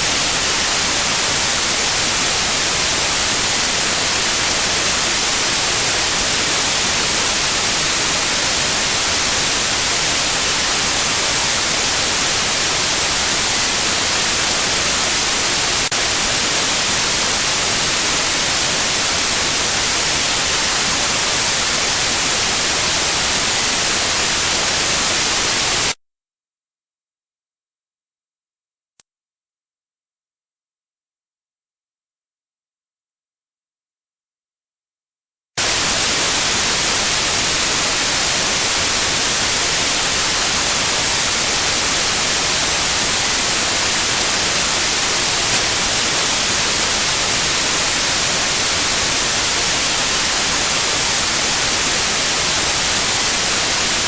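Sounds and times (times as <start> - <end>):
high-pitched pure tone: 0.0 - 26.0, 35.6 - 54.0
white noise: 0.0 - 26.0, 35.6 - 54.0.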